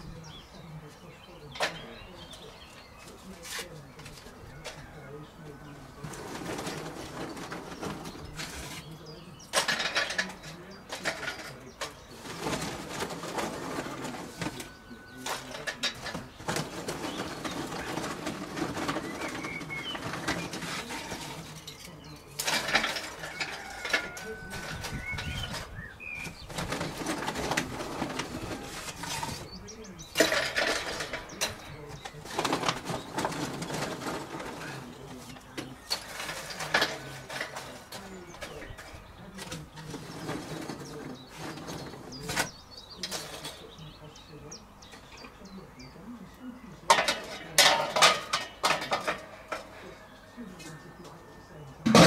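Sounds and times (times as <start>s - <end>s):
rummaging in a sack: 0.0s - 45.2s
birds calling: 0.0s - 52.0s.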